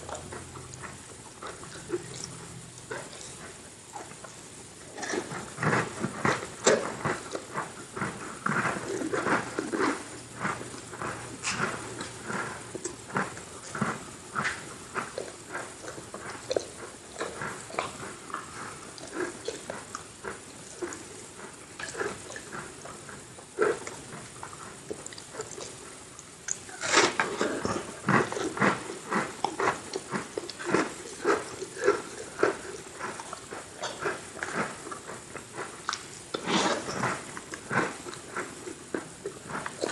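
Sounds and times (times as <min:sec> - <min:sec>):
chewing crunchy cookies: 0:00.0 - 0:39.9.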